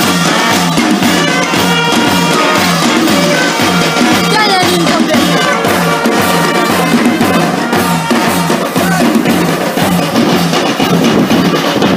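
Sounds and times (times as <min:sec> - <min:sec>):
brass band playing: 0:00.0 - 0:11.9
drums and cymbals beat: 0:00.0 - 0:11.9.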